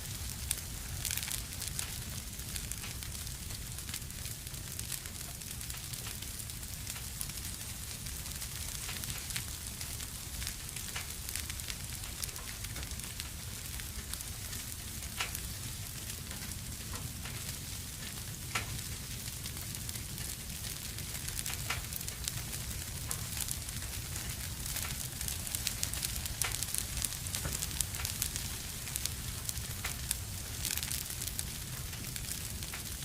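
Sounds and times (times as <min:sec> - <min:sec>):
fire crackling and popping: 0:00.0 - 0:33.0
wood fire hissing: 0:00.0 - 0:33.0.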